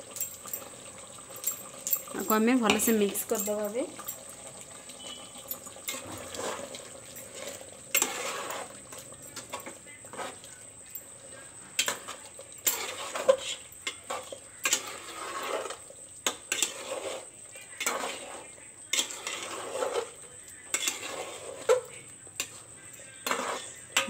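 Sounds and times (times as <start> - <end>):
metal spoon stirring in pot: 0.0 - 24.0.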